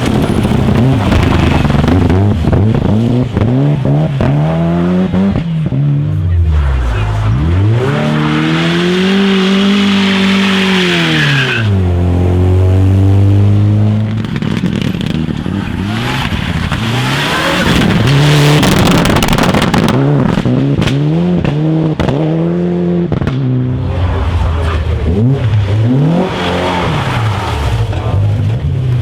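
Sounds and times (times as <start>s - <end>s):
exhaust cracks: 0.0s - 22.4s, 23.0s - 29.0s
rally car engine revving: 0.0s - 29.0s
tyre and road noise: 0.0s - 29.0s.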